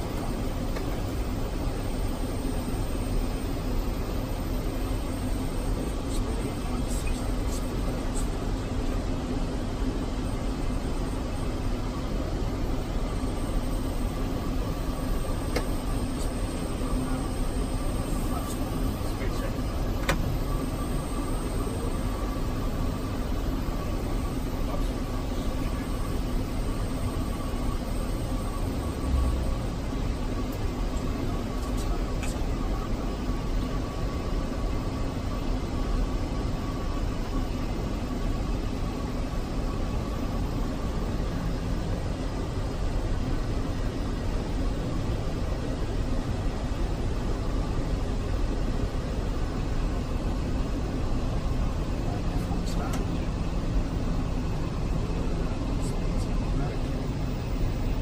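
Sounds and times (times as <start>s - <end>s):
faint steady high tone: 0.0s - 8.7s, 9.9s - 58.0s
airliner cabin noise: 0.0s - 58.0s
low hum: 0.0s - 58.0s.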